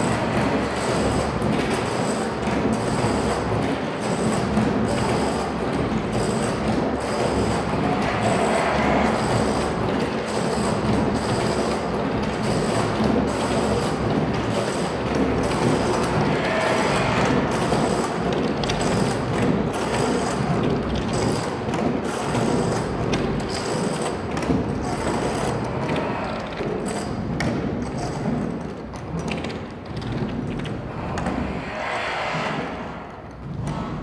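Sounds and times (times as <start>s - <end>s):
knocks and clicks: 0.1s - 34.0s.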